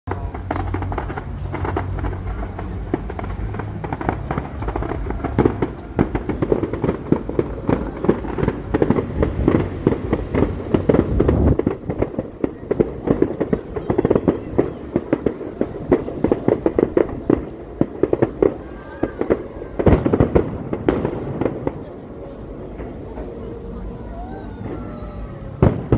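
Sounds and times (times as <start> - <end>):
fireworks crackling and popping: 0.1 - 25.9
low rumble: 0.1 - 25.9.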